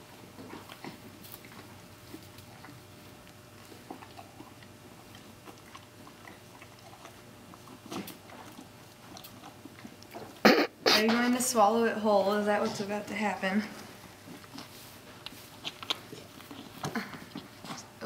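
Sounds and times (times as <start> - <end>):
horse crunching an apple: 0.0 - 10.8, 13.7 - 18.0.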